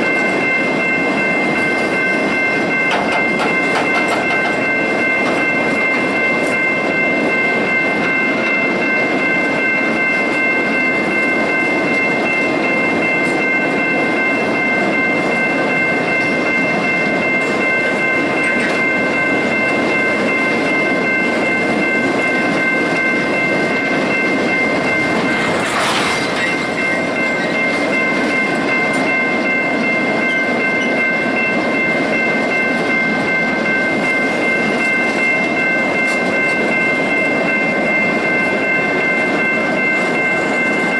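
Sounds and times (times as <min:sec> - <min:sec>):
railcars rumbling on track: 0:00.0 - 0:40.9.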